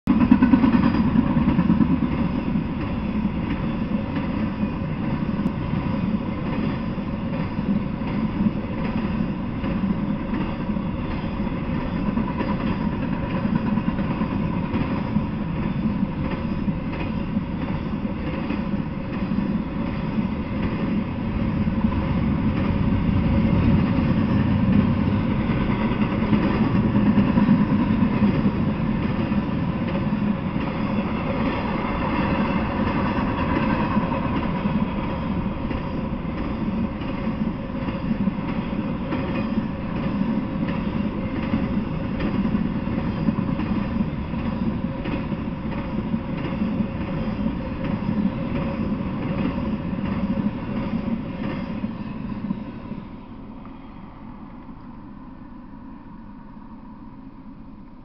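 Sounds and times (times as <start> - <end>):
freight train rumbling and clattering: 0.1 - 56.3.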